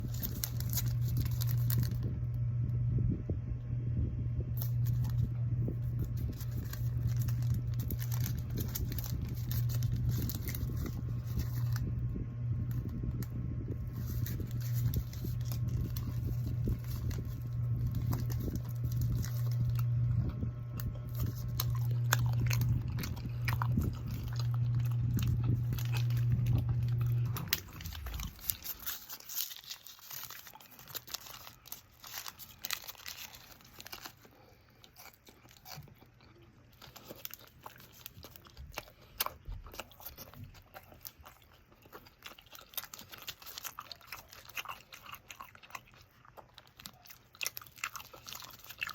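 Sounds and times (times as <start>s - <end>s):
person chewing food: 0.0s - 2.1s, 4.6s - 48.9s
steady low hum: 0.0s - 48.9s.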